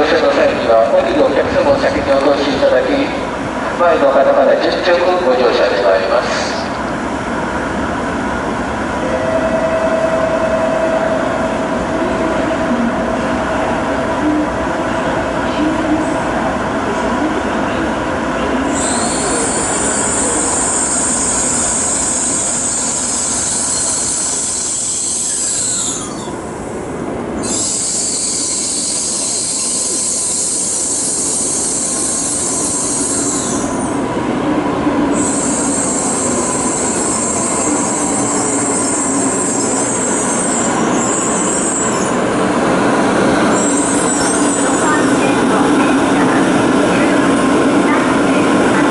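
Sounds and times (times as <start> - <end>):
train mechanical noise: 0.0 - 48.9.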